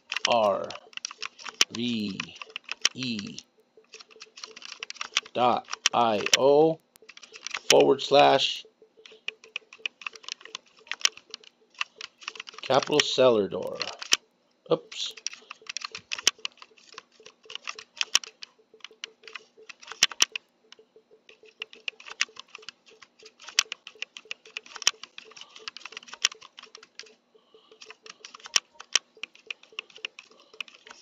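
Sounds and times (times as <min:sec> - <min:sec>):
keys clicking rapidly: 0:00.0 - 0:14.2, 0:14.8 - 0:31.0.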